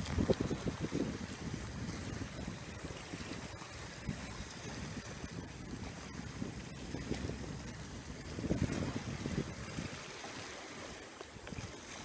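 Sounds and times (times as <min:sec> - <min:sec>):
hiss of wind and sea: 0:00.0 - 0:12.0
wind buffeting microphone: 0:00.0 - 0:12.0.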